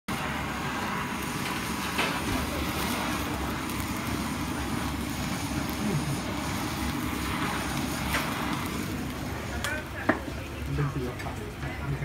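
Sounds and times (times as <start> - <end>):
kitchen torch hissing: 0.1 - 12.0.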